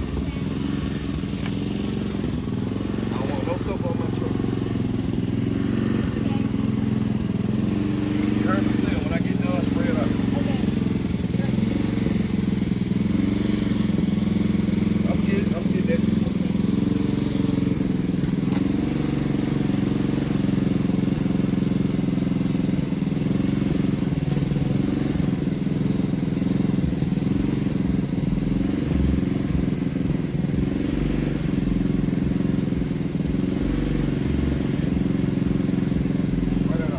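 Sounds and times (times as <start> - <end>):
engine humming steadily: 0.0 - 36.9.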